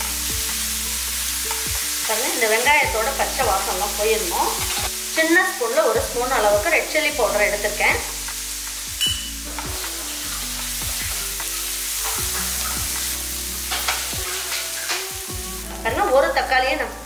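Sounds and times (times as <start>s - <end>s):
onion sizzling in oil: 0.0s - 17.0s.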